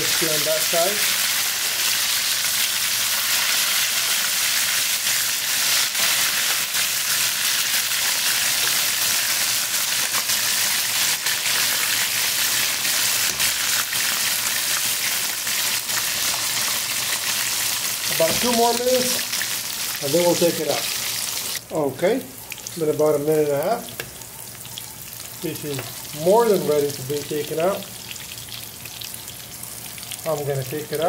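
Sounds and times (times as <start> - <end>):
fish frying in hot oil: 0.0 - 21.6, 23.6 - 31.0.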